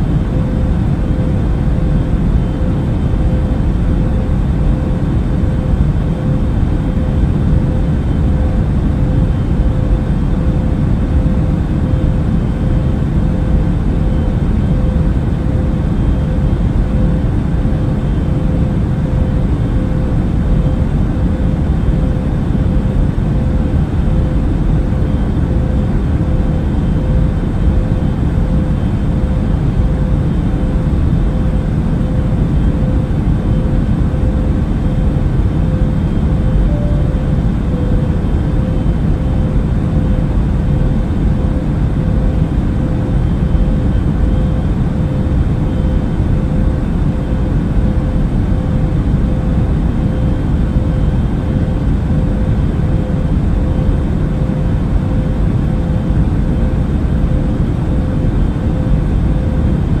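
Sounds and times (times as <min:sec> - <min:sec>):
airplane rumble: 0:00.0 - 1:00.0
faint steady hum: 0:00.0 - 1:00.0.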